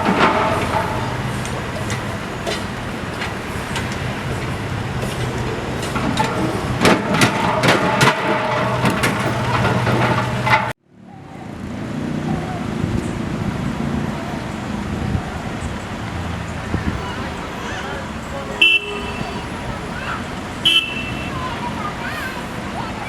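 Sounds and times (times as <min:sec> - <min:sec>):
heavy vehicle engine running: 0:00.0 - 0:10.8, 0:11.6 - 0:23.0.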